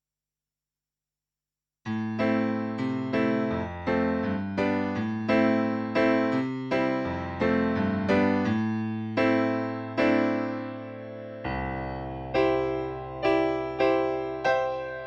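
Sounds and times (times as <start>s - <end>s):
synthesizer piano chords: 1.9s - 15.0s.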